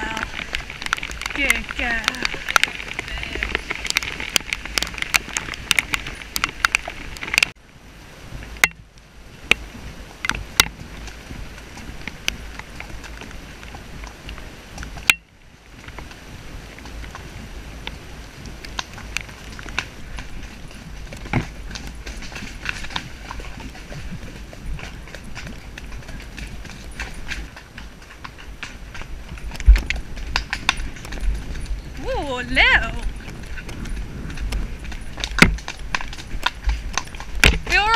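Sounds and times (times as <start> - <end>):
hoofbeats on muddy track: 0.0 - 37.9
wind noise: 0.0 - 37.9.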